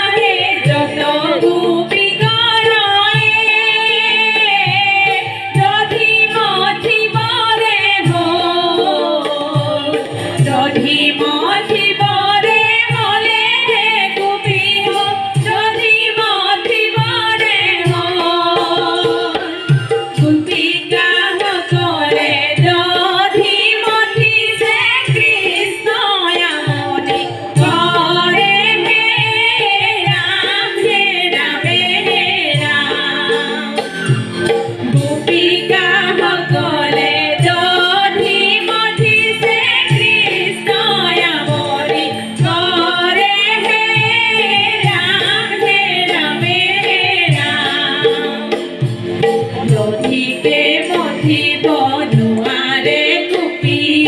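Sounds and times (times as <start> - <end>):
drum strokes: 0.0 - 54.0.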